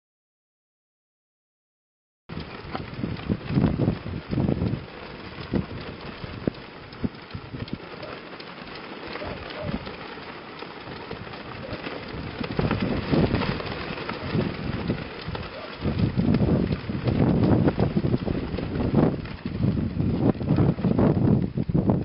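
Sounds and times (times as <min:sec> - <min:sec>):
wind buffeting microphone: 0:02.3 - 0:22.0
cloth streamers flapping: 0:02.5 - 0:21.8.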